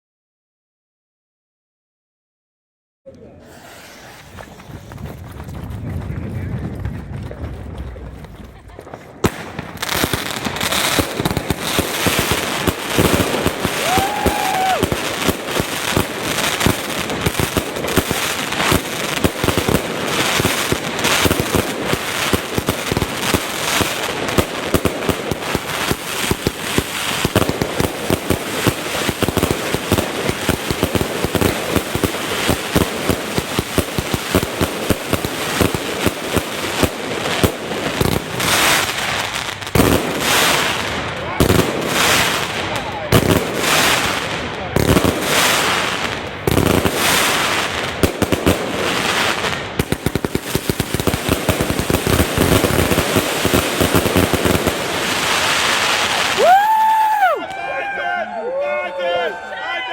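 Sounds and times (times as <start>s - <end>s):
fireworks shots and bursts: 3.4s - 5.0s, 5.7s - 57.4s.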